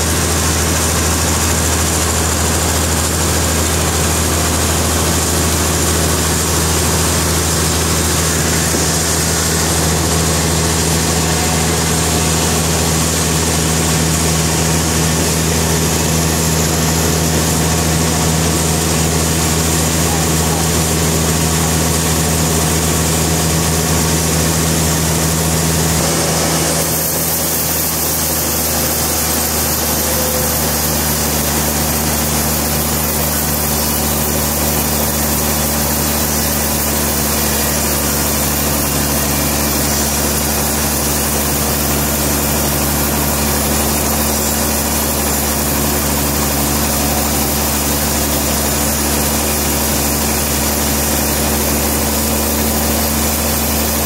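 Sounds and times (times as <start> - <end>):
sawmill engine humming: 0.0 - 54.0.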